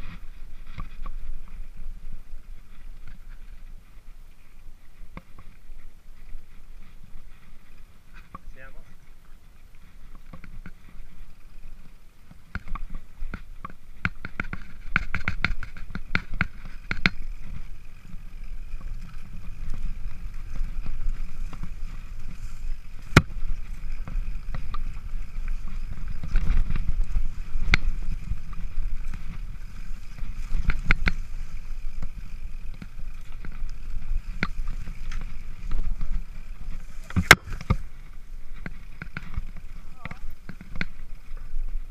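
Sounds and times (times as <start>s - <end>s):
bike knocking and rattling: 0.0s - 41.9s
bike rumbling over rough trail: 0.0s - 41.9s.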